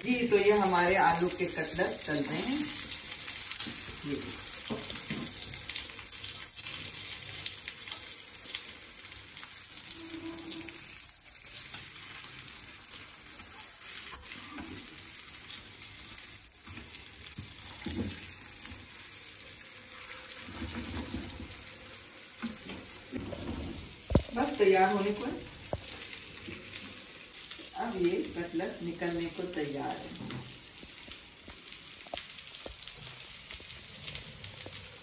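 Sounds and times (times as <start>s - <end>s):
cutlets sizzling in oil: 0.0s - 35.0s.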